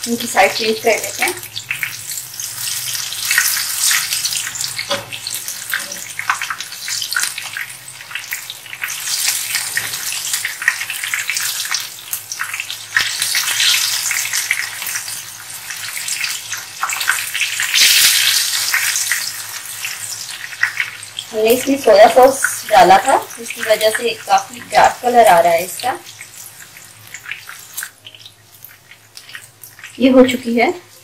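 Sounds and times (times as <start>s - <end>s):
meat frying in hot oil: 0.0s - 31.0s.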